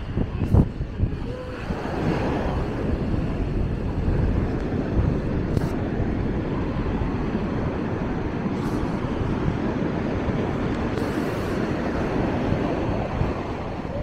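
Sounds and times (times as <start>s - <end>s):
ocean surf: 0.0s - 14.0s
wind rumbling on microphone: 0.0s - 14.0s.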